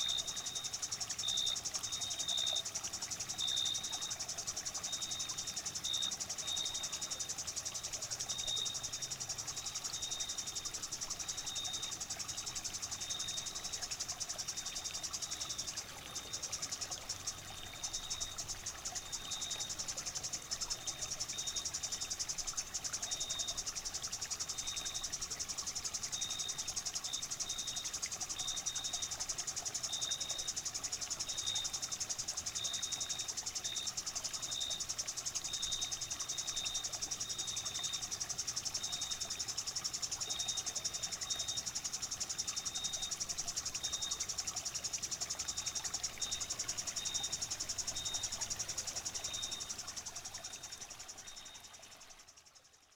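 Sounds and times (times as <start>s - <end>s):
insect chirps: 0.0s - 52.9s
insects trilling: 0.0s - 52.9s.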